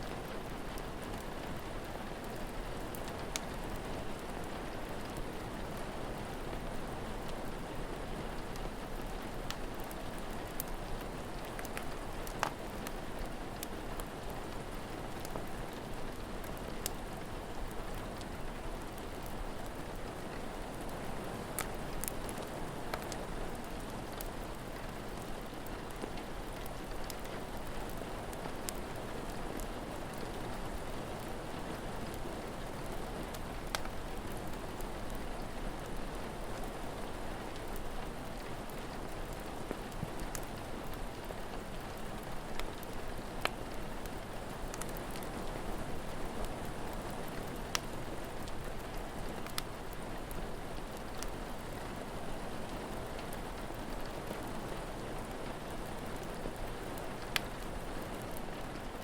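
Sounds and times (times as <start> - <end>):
rain falling: 0.0 - 59.0
wood fire crackling: 0.0 - 59.0.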